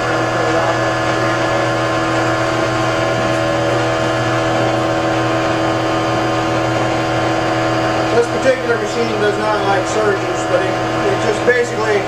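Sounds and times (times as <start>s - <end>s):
electric motor-generator humming: 0.0s - 12.0s.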